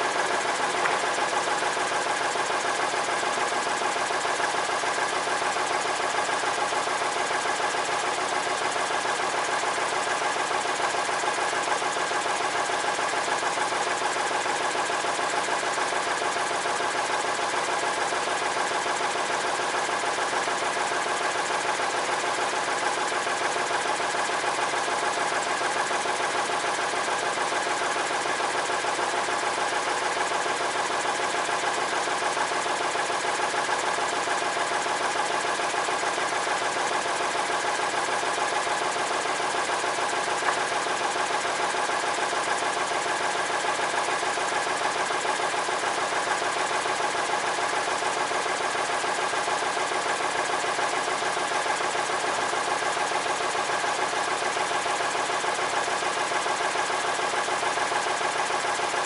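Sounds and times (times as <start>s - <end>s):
sawmill engine running: 0.0s - 58.6s.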